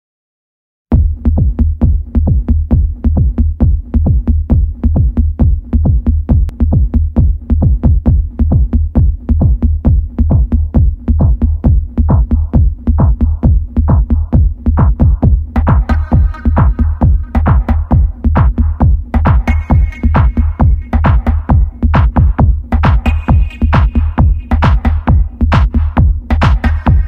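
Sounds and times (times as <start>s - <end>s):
drum machine kick beat: 0.9s - 27.0s
electronic dance music: 1.0s - 27.0s.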